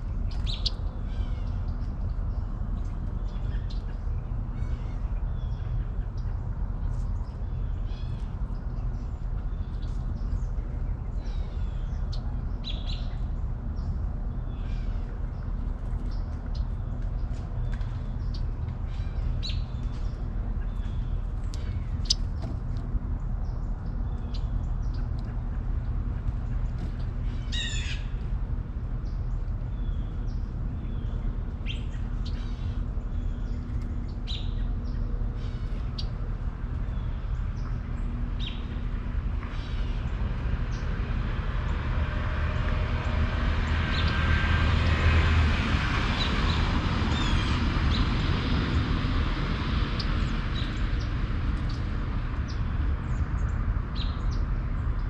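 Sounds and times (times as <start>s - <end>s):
birds calling and chirping: 0.0s - 42.1s, 45.9s - 48.8s
steady low rumble: 0.0s - 55.0s.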